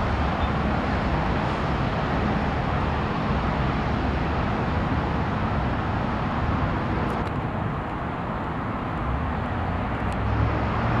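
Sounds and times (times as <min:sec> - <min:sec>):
road noise: 0:00.0 - 0:11.0
vehicle engines humming: 0:00.0 - 0:11.0.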